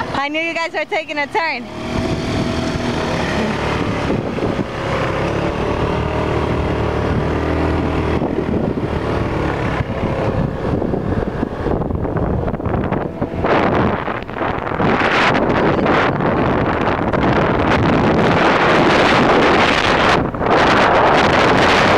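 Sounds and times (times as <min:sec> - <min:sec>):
scooter engine running: 0:00.0 - 0:21.9
wind buffeting microphone: 0:00.0 - 0:21.9.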